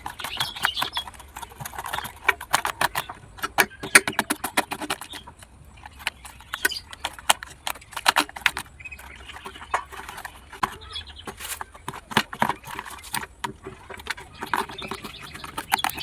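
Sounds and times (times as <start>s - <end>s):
sharp clicks and taps: 0.0s - 16.0s.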